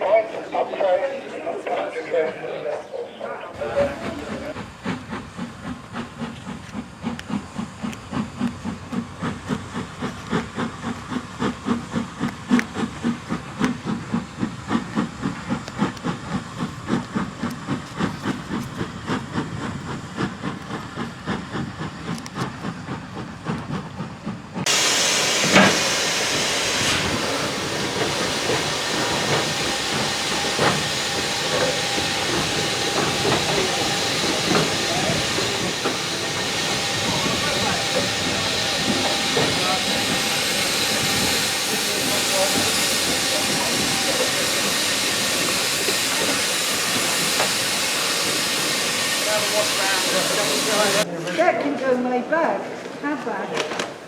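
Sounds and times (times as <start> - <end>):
loud hiss of steam: 3.6 - 51.1
steam locomotive exhaust beats: 3.6 - 51.1.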